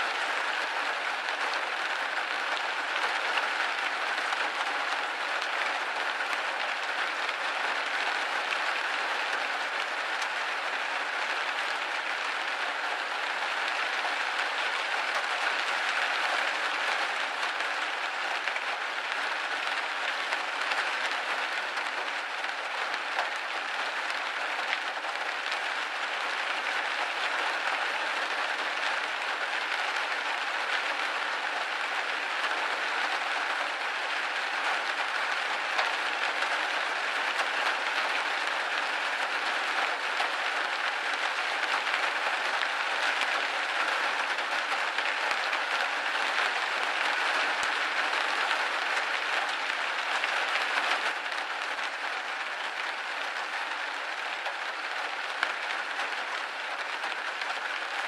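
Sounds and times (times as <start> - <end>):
rain pattering on a window: 0.0 - 58.0.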